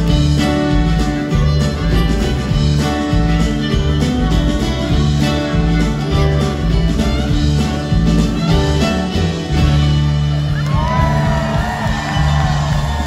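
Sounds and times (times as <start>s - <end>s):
drums: 0.0s - 13.0s
fiddle: 0.0s - 13.0s
upright bass line: 0.0s - 13.0s.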